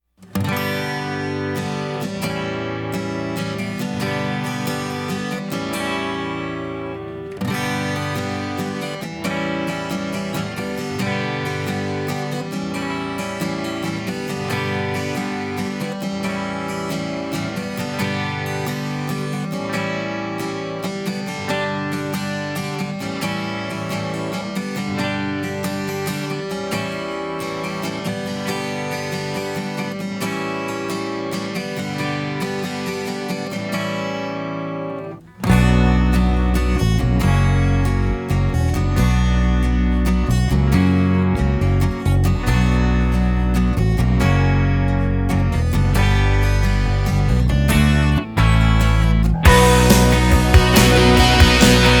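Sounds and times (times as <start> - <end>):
strummed acoustic guitar: 0.0 - 52.0.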